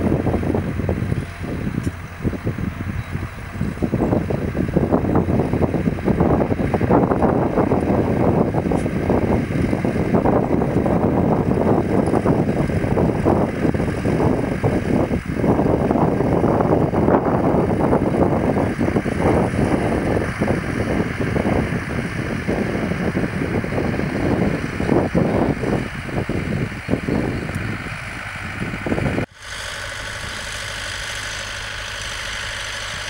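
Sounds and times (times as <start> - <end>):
wind rumble on microphone: 0.0 - 29.3
tractor engine running: 0.0 - 33.0.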